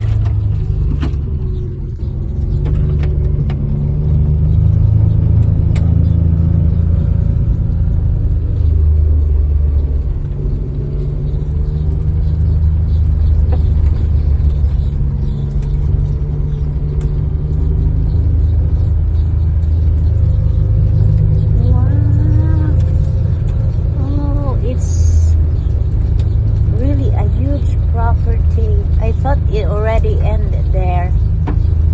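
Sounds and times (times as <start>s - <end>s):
small clicks and rattles: 0.0s - 31.9s
vehicle engine and tyres rumbling: 0.0s - 31.9s.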